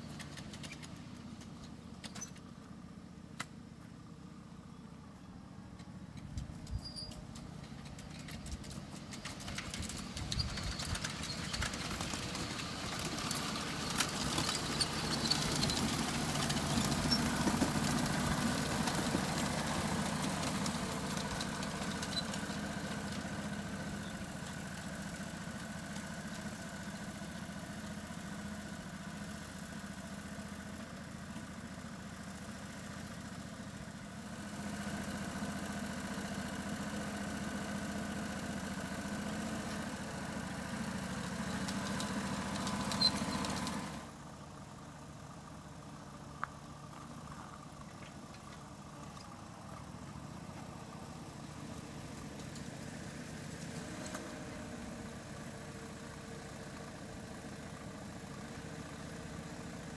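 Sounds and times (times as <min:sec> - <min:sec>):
small locomotive engine running: 0:00.0 - 0:59.9.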